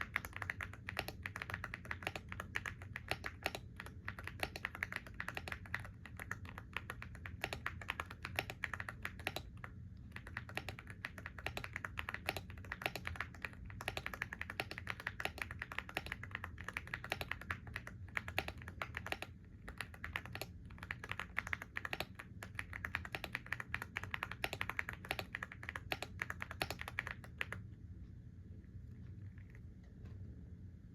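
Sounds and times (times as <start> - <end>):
fast typing on keyboard: 0.0 - 27.7
steady low hum: 0.0 - 30.9.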